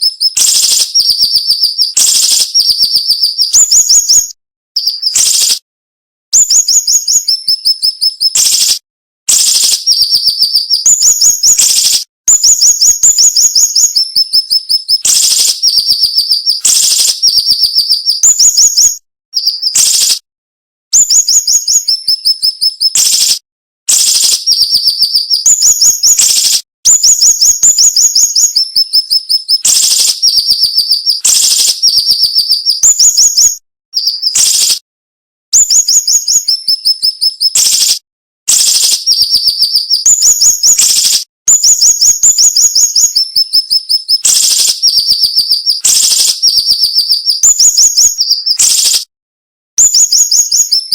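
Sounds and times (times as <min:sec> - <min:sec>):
bird singing high-pitched phrases: 0:00.0 - 0:05.6, 0:06.4 - 0:20.2, 0:21.0 - 0:34.8, 0:35.6 - 0:49.0, 0:49.8 - 0:50.9.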